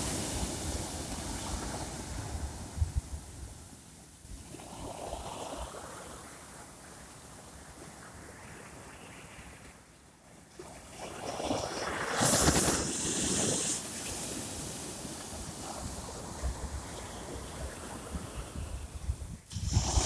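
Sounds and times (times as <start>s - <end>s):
waves washing up a beach: 0.0s - 20.0s.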